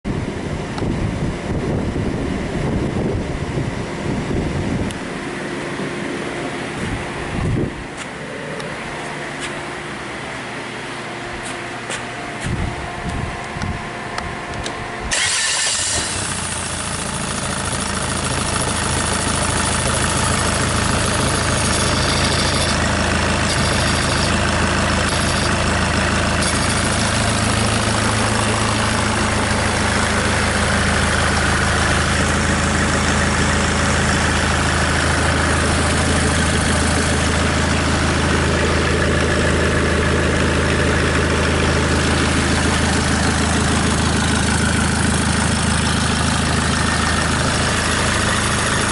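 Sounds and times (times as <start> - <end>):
diesel engine cranking and idling: 0.0 - 48.9.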